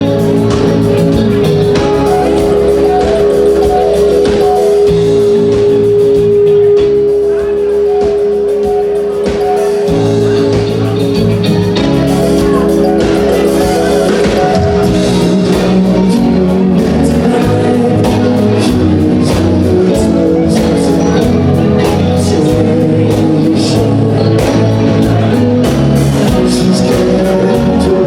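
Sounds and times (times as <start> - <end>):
live band playing soft rock: 0.0 - 28.0.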